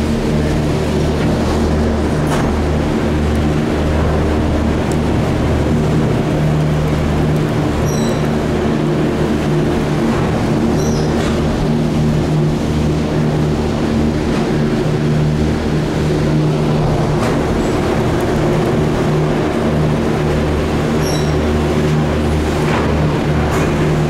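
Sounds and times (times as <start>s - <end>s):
gondola lift mechanical hum: 0.0s - 24.0s.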